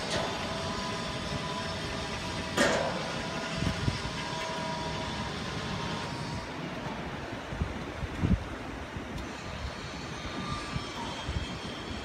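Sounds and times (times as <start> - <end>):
hydraulic crane mechanical hum: 0.0 - 12.0.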